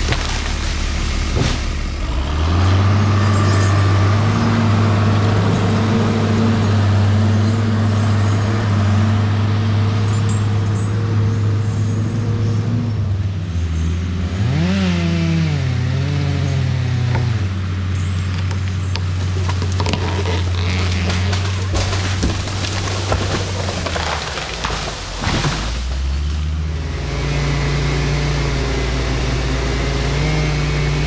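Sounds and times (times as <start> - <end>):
heavy machine engine revving: 0.0 - 18.4, 19.0 - 31.0.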